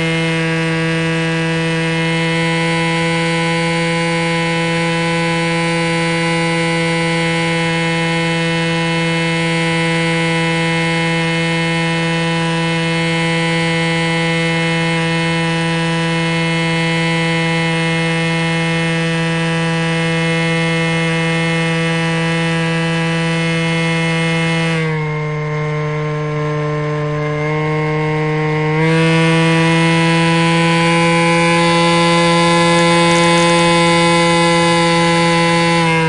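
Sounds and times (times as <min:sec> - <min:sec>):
model plane motor whining: 0:00.0 - 0:36.0.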